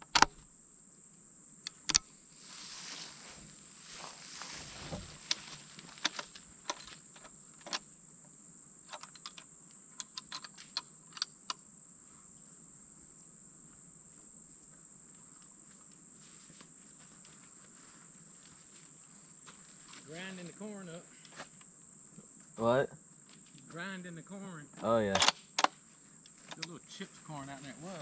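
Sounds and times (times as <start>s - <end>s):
high-pitched insect drone: 1.5s - 28.0s.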